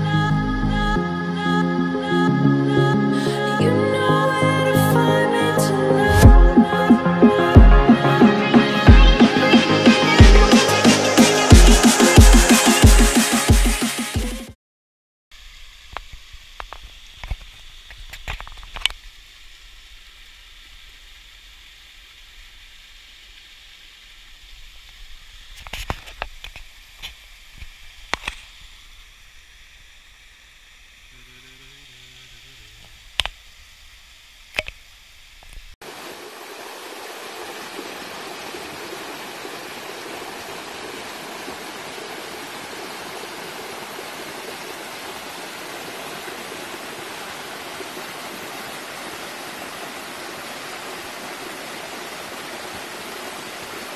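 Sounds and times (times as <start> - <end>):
small waterfall splashing: 6.1 - 14.2, 15.4 - 33.4, 34.1 - 53.9.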